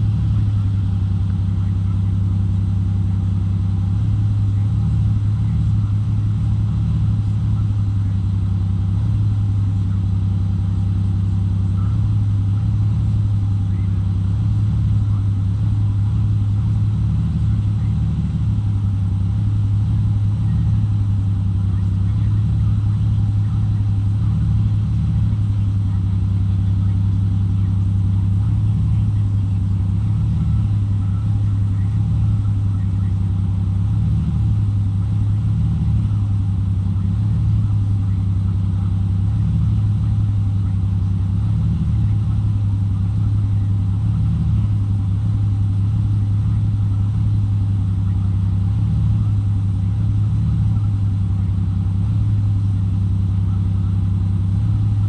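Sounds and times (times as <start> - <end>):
car engine idling unevenly: 0.0 - 55.0.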